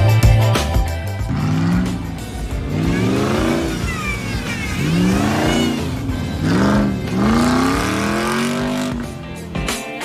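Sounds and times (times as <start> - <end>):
buggy engine revving: 0.0 - 10.0.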